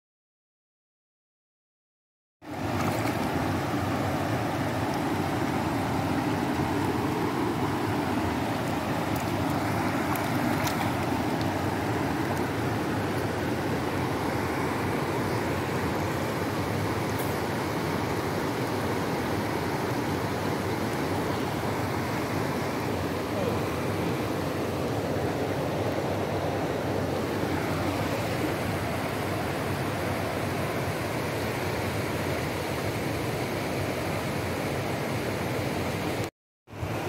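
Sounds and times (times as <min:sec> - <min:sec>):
stream flowing over stones: 0:02.4 - 0:37.0.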